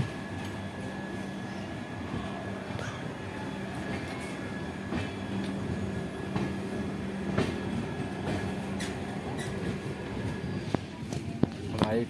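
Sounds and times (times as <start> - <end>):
train rumbling with hum: 0.0 - 12.0.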